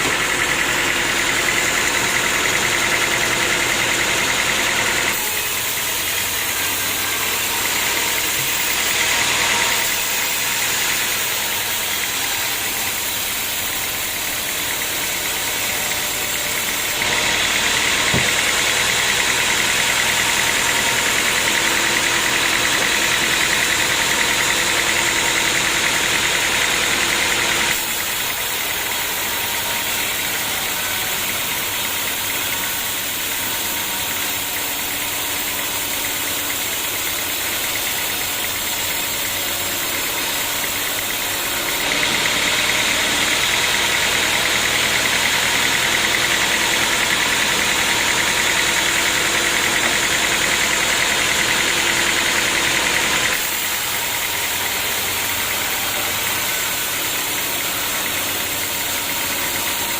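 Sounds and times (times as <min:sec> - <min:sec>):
saw hissing through log: 0:00.0 - 0:59.9
sawmill machinery running: 0:00.0 - 0:59.9.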